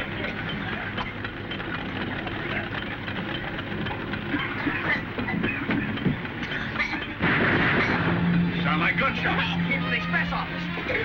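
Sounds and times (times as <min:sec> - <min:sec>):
machine clattering and rattling: 0:00.0 - 0:09.8.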